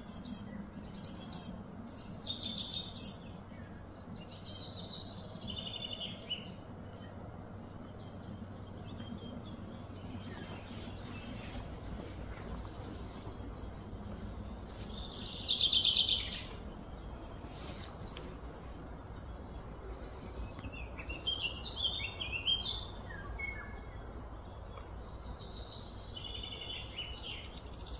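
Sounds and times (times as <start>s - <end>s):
birds chirping: 0.0s - 27.9s
low background hum: 0.0s - 27.9s.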